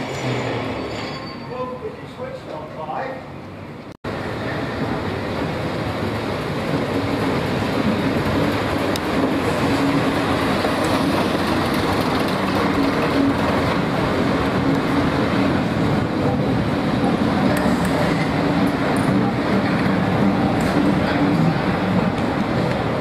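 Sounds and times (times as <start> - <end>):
diesel train passing: 0.0 - 23.0.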